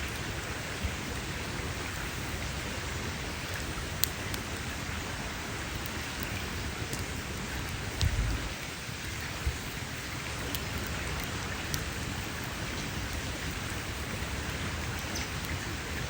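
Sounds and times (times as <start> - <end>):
campfire hissing: 0.0 - 16.0
fire crackling and popping: 0.1 - 16.0.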